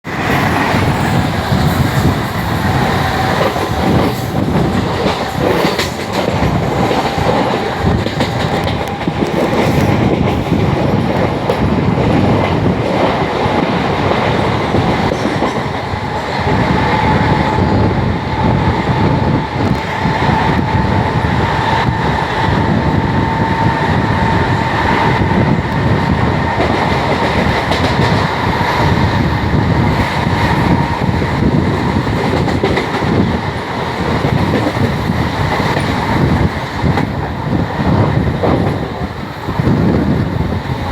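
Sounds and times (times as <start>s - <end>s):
steady train whine: 0.0s - 40.9s
train wheels clattering: 0.1s - 40.9s.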